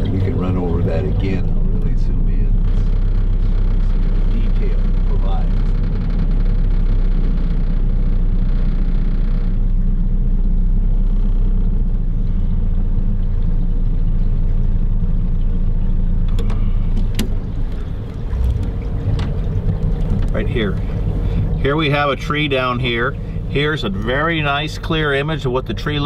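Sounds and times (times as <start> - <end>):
boat motor rumbling: 0.0 - 26.0.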